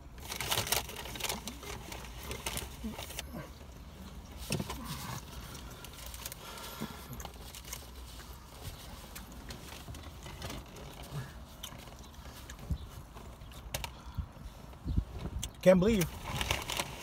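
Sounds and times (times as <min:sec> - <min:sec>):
small rustles: 0:00.2 - 0:17.0.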